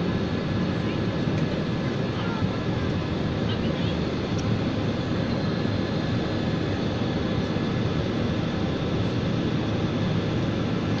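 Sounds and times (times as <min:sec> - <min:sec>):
jet cabin engine rush: 0:00.0 - 0:11.0.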